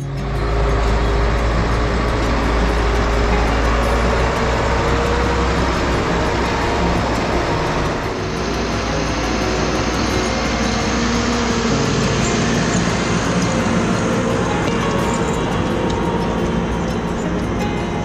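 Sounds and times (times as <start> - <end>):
heavy diesel engines running: 0.0 - 18.0
skidder pulling logs through snow: 0.0 - 18.0.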